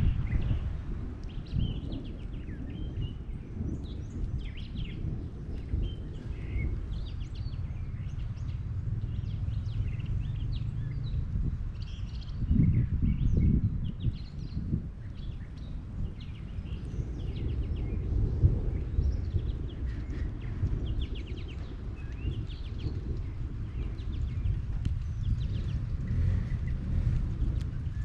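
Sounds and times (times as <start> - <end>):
small birds chirping: 0.0 - 28.0
steady low rumble: 0.0 - 28.0.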